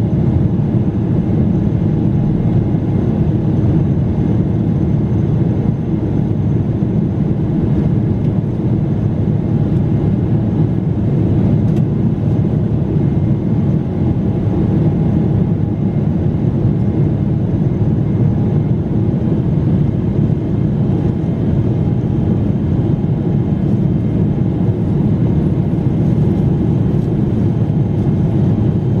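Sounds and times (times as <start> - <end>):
jet engine roar in cabin: 0.0 - 29.0.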